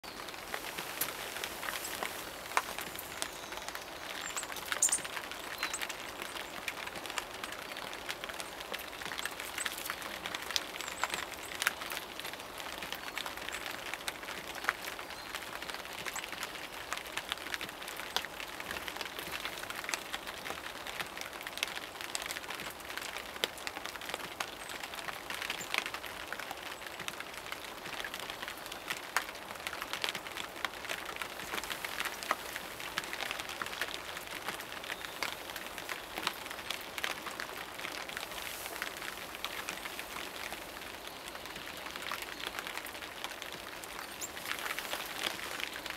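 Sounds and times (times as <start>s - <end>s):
raindrops tapping close by: 0.0s - 45.9s
steady rain falling: 0.0s - 45.9s.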